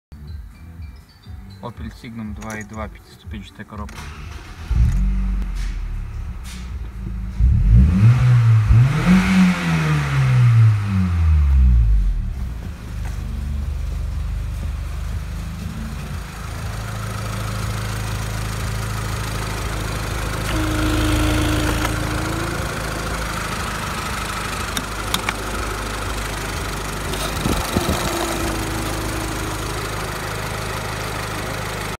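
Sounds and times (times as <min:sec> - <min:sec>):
petrol engine idling: 0:01.8 - 0:07.7, 0:11.8 - 0:32.0.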